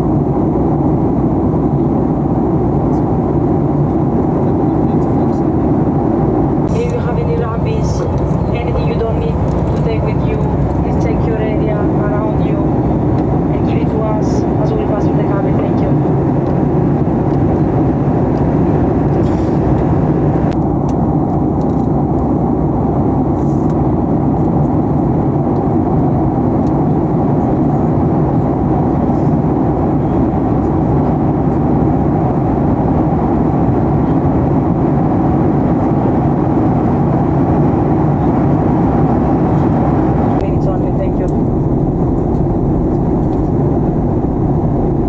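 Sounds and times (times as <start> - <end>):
airplane cabin engine roar: 0.0 - 45.0.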